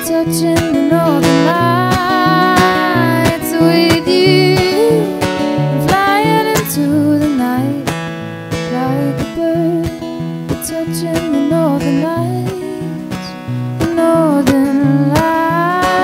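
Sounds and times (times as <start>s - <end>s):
strummed acoustic guitar: 0.0s - 16.0s
woman singing: 0.0s - 16.0s.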